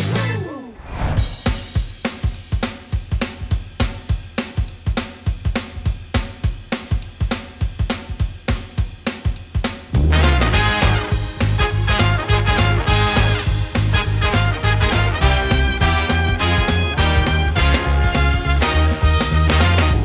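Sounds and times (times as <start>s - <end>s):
drum kit beat: 1.2s - 20.0s.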